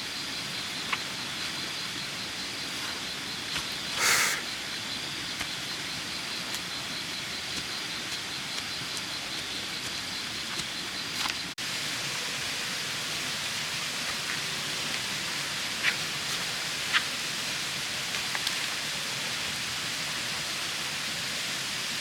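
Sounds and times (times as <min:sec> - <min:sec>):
even forest hiss: 0:00.0 - 0:22.0.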